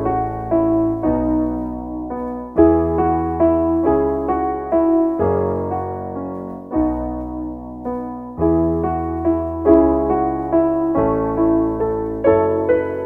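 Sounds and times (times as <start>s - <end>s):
gentle keyboard music: 0.0s - 13.0s.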